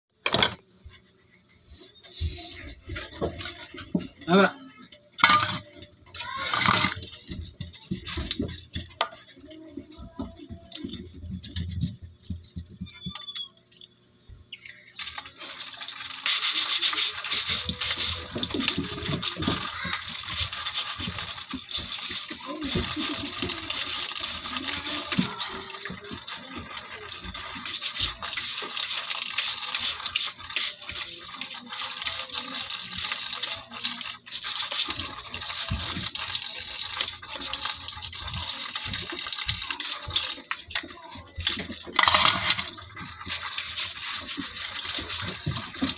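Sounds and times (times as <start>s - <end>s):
tap water running into sink: 5.2s - 12.6s, 15.0s - 45.9s.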